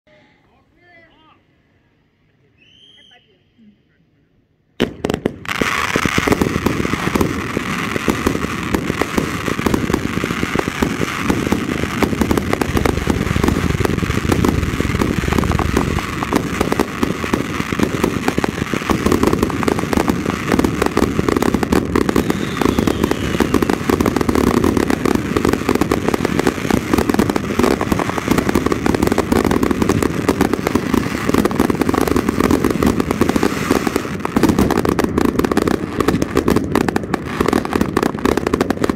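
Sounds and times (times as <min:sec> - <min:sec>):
fireworks rapid bangs and crackle: 0:04.8 - 0:38.9.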